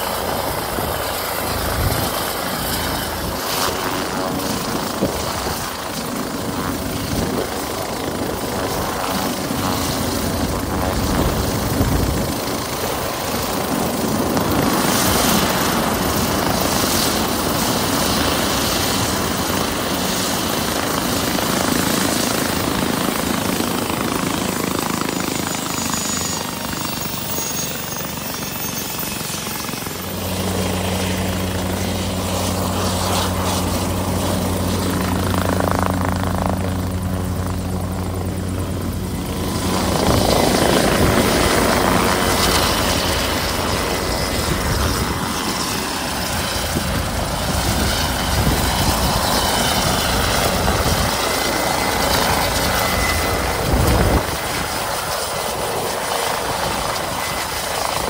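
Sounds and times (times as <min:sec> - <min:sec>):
helicopter turbine and rotor: 0:00.0 - 0:58.0.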